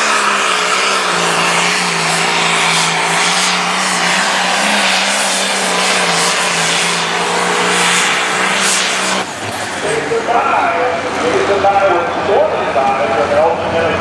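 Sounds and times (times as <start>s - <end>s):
diesel engine under full load: 0.0s - 14.0s.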